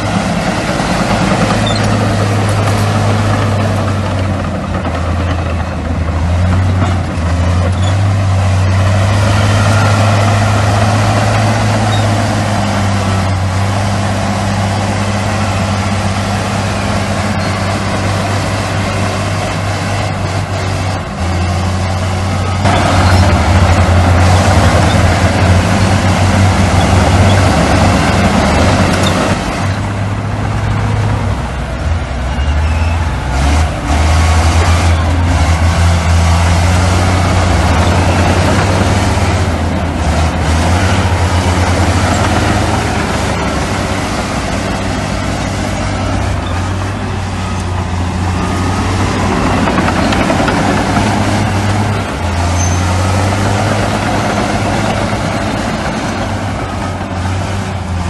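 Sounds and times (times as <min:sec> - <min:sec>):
heavy diesel machinery engines: 0:00.0 - 0:58.0.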